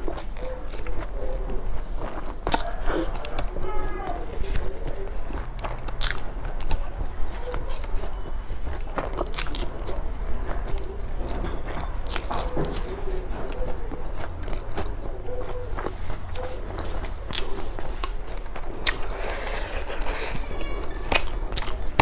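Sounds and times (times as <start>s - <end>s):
wet mouth clicks: 0.0s - 20.5s
chewing with crunches: 0.0s - 22.0s.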